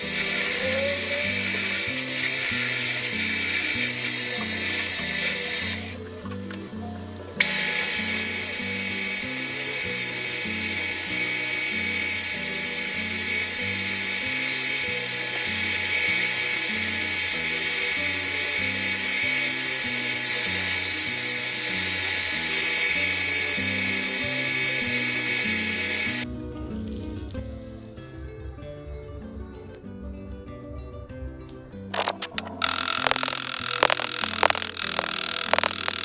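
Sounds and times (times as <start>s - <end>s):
lathe machining metal: 0.0s - 6.0s, 7.4s - 26.2s, 32.0s - 36.0s.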